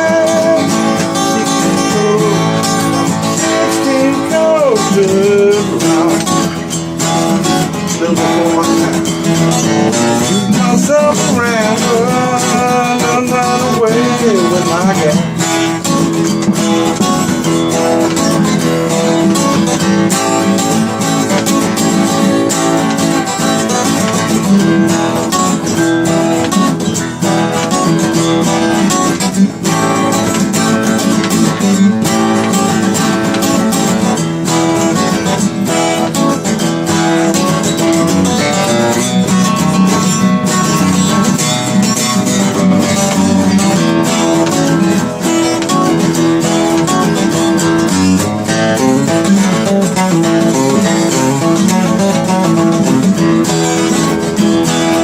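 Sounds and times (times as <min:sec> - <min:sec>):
blues guitar playing: 0:00.0 - 0:55.0.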